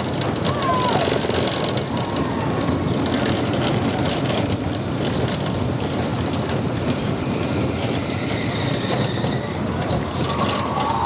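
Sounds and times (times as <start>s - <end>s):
roller coaster wheels rumbling on rail: 0.0s - 11.0s.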